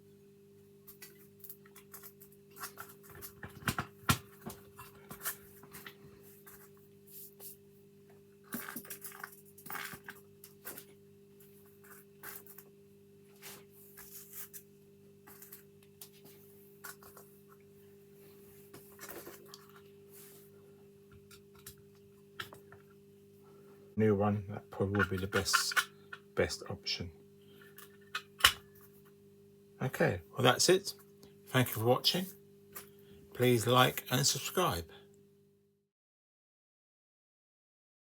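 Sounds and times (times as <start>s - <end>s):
steady low hum: 0.1s - 35.4s.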